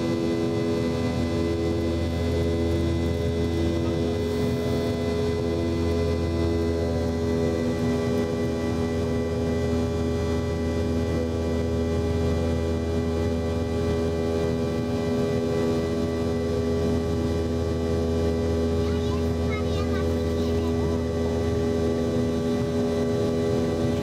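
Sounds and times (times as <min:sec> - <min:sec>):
jet engine drone in cabin: 0:00.0 - 0:24.0.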